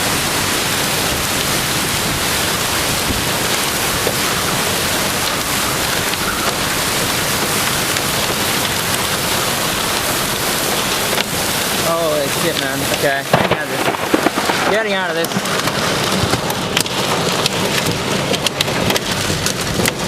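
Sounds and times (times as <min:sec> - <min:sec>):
heavy rain beating on a car: 0:00.0 - 0:20.0.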